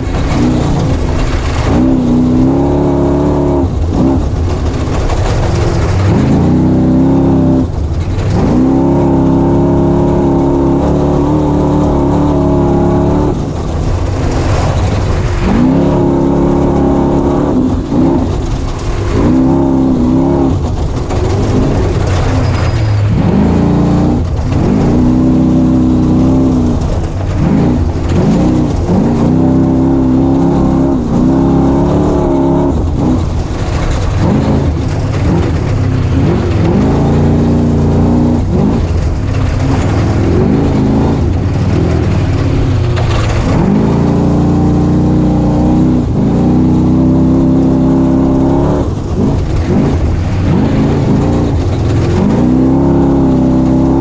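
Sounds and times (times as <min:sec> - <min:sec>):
race vehicle engine revving: 0:00.0 - 0:54.0.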